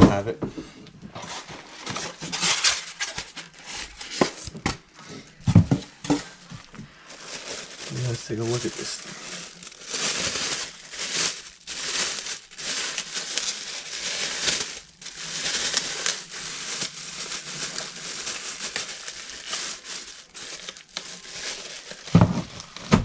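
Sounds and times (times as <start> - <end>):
packaging crinkling and rustling: 1.1 - 23.0.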